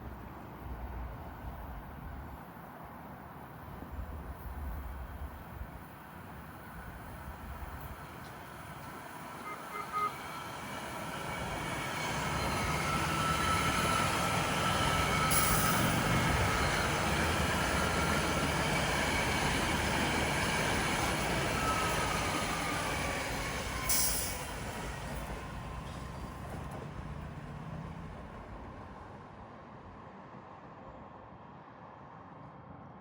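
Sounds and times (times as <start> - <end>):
train running: 0.0 - 29.5.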